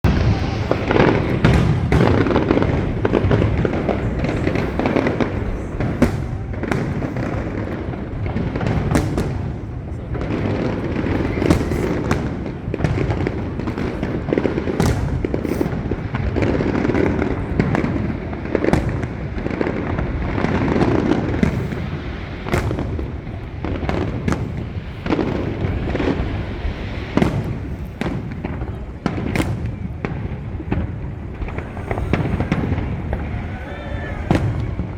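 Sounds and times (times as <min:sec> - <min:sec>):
fireworks booming: 0:00.0 - 0:34.9
fireworks sharp cracks: 0:00.0 - 0:34.9.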